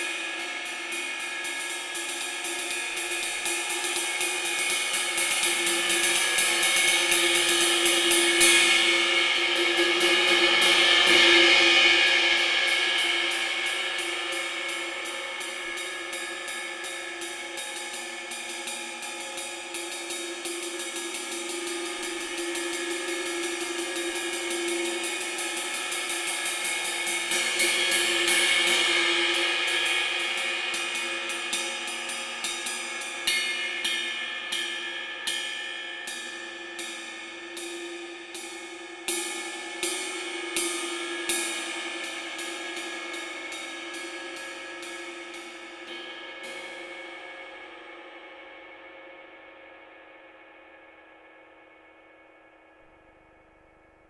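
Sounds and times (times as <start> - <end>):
cymbal played with sticks: 0.0 - 54.0.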